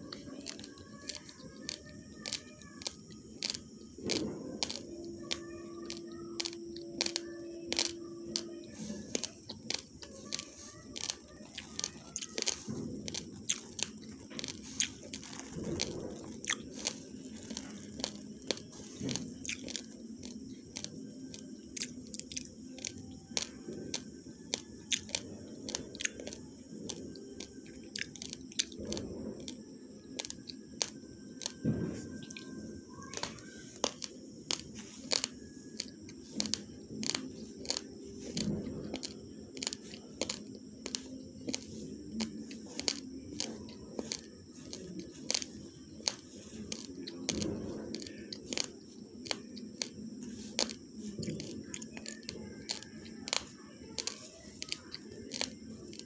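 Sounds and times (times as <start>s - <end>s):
person chewing crunchy rice: 0.0s - 56.0s.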